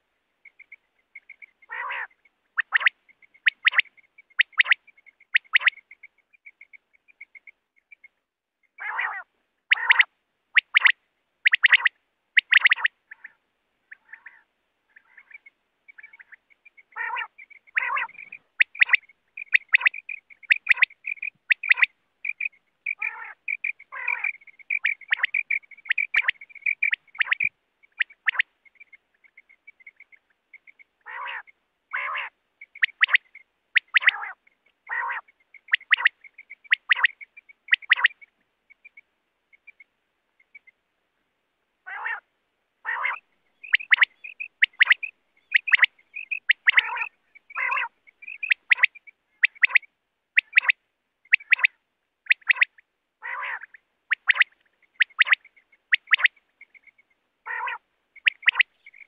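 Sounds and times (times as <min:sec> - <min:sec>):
quail rough calls: 0:00.0 - 0:08.1, 0:08.7 - 0:39.8, 0:41.8 - 0:59.0
thin chirps: 0:00.4 - 0:08.2, 0:11.5 - 0:14.2, 0:14.9 - 0:30.9, 0:32.6 - 0:40.8, 0:43.1 - 0:49.8, 0:50.4 - 0:52.8, 0:53.7 - 0:57.2, 0:58.2 - 0:59.0.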